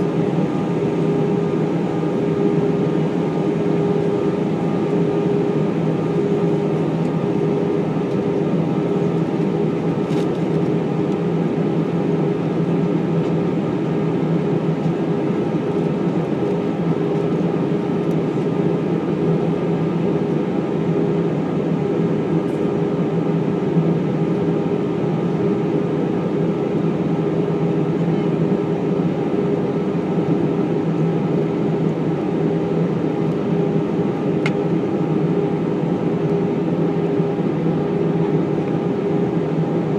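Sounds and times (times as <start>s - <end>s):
constant tonal hum: 0.0s - 39.9s
jet engines and airflow in cabin: 0.0s - 39.9s.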